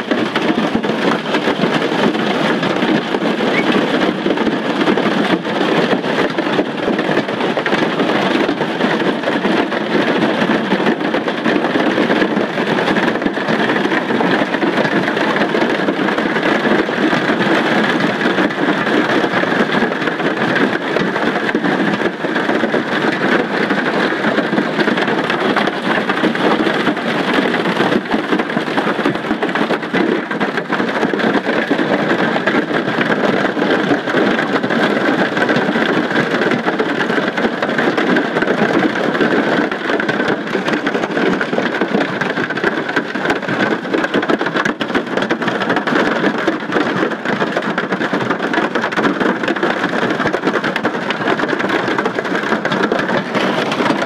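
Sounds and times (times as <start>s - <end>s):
hail and rain pounding on aircraft: 0.0s - 54.0s.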